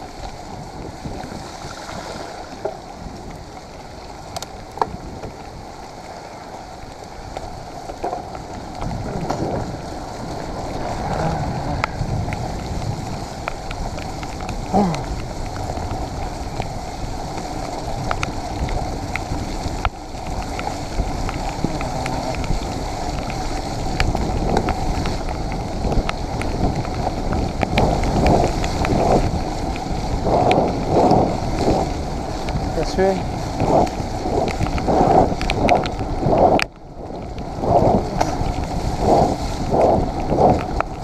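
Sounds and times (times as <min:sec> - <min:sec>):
bike rattles and clicks: 0:00.0 - 0:41.0
bike tyres on muddy trail: 0:00.0 - 0:41.0
wind buffeting microphone: 0:00.0 - 0:41.0.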